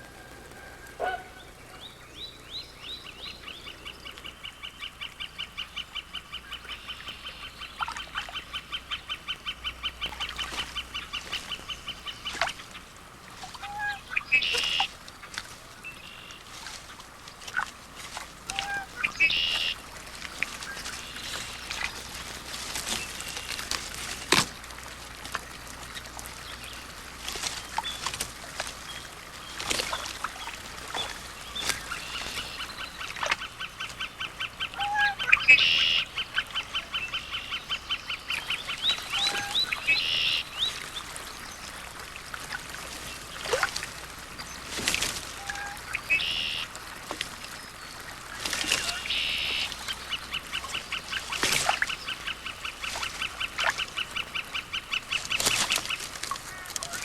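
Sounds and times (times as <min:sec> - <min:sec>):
wild birds calling: 0:00.0 - 0:57.0.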